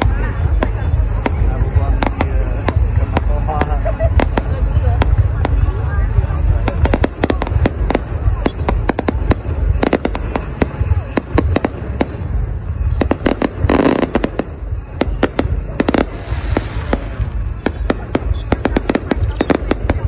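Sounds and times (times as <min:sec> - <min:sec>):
continuous low rumble: 0:00.0 - 0:20.0
fireworks bangs and crackles: 0:00.0 - 0:20.0.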